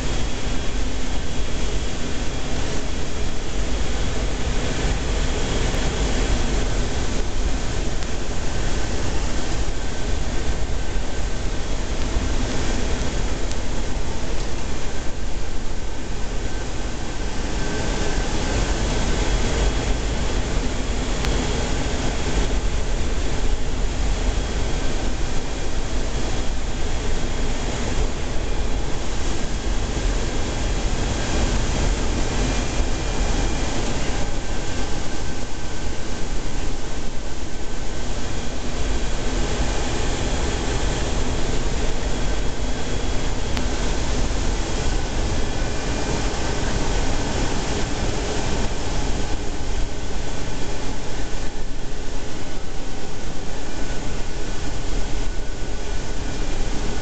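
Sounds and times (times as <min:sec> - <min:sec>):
airflow: 0:00.0 - 0:57.0
faint steady tones: 0:00.0 - 0:57.0
jet engines rumbling in cockpit: 0:00.0 - 0:57.0.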